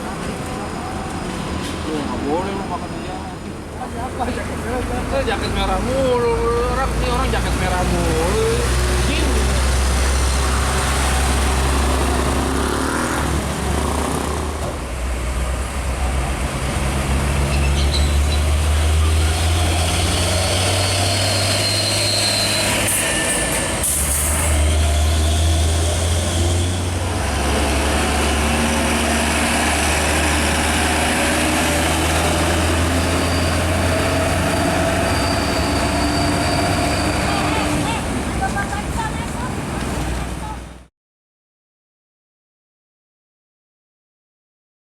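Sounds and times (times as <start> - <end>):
diesel trucks driving past: 0.0 - 40.9.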